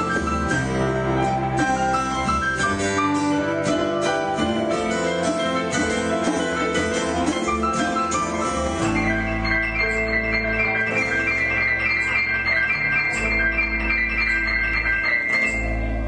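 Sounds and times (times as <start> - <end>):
acoustic band playing: 0.0 - 16.0
quick piano notes: 0.0 - 16.0.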